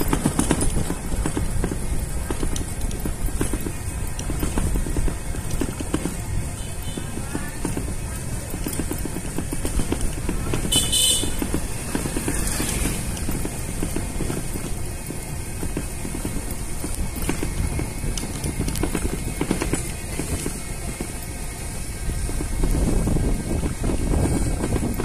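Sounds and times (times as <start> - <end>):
vehicle low rumble: 0.0 - 25.0
vehicle rattles and knocks: 0.0 - 25.0.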